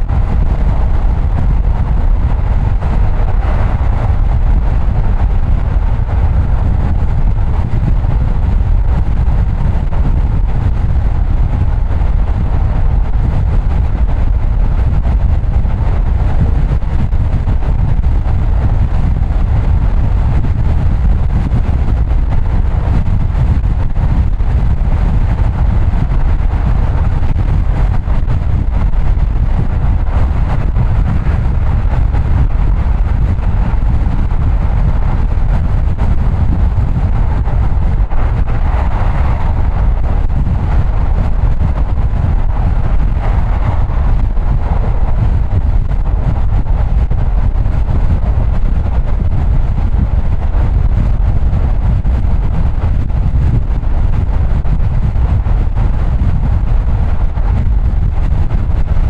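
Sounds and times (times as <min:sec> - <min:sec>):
car road noise: 0:00.0 - 0:59.0.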